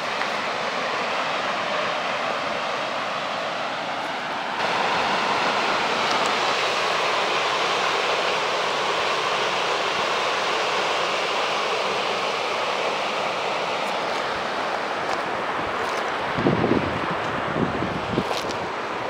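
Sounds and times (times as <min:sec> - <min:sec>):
steady outdoor rushing noise: 0:00.0 - 0:19.0.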